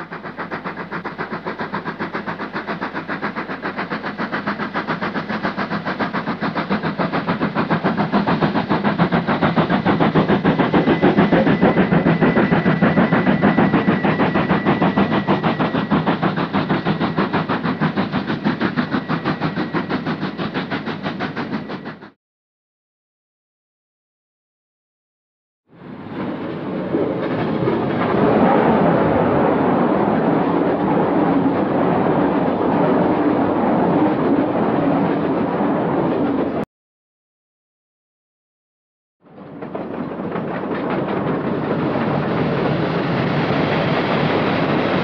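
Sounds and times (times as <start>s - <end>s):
steam locomotive chuffing: 0.0s - 22.2s, 25.7s - 36.6s, 39.2s - 45.0s.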